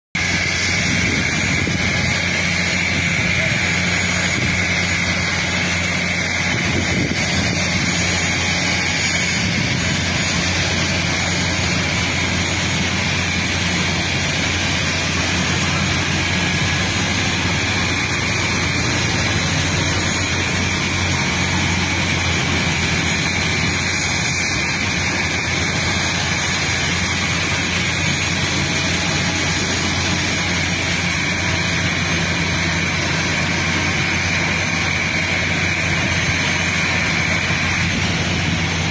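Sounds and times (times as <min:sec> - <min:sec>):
vehicle engine drone: 0:00.1 - 0:38.9
high whine: 0:00.2 - 0:38.9.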